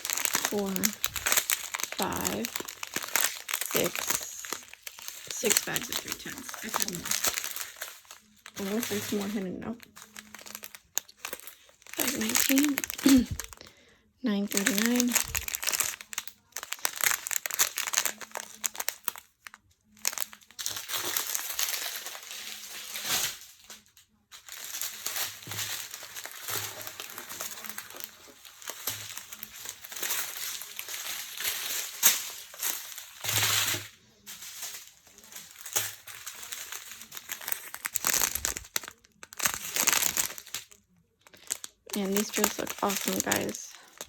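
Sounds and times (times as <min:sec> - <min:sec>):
plastic bags crinkling: 0:00.0 - 0:44.0.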